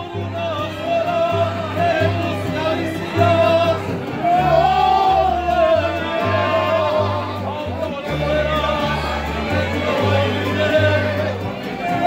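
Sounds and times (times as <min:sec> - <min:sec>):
mariachi band playing: 0:00.0 - 0:12.0
person singing: 0:00.0 - 0:12.0
plucked bass notes: 0:00.0 - 0:12.0.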